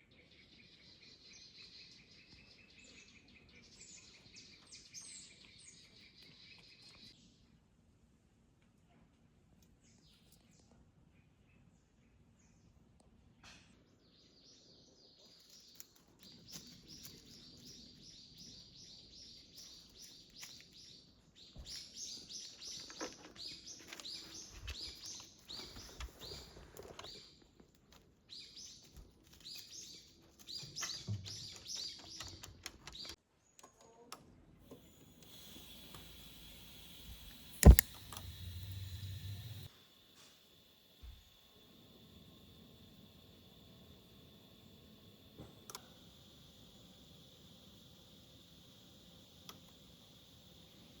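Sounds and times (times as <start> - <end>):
bird chirping: 0.0 - 7.6, 13.9 - 33.9, 35.3 - 51.0.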